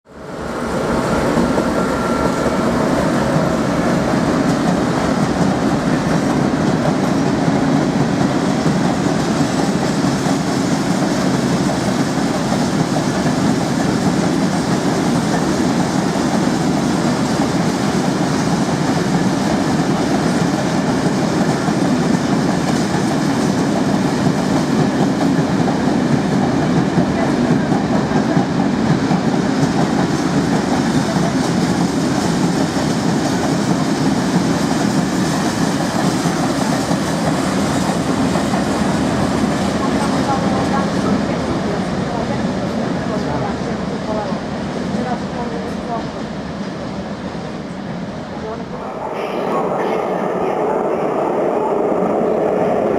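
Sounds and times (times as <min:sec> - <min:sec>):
train wheels rumbling on rails: 0:00.1 - 0:52.9.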